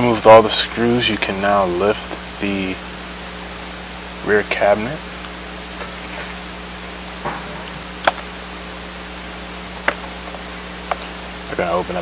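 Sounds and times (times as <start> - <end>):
steady hiss: 0.0 - 12.0
low hum: 1.1 - 11.5.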